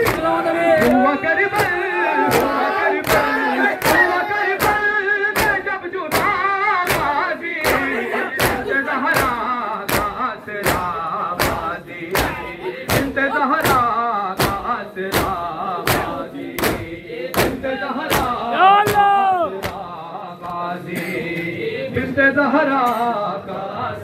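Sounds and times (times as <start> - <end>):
men chanting together: 0.0 - 24.0.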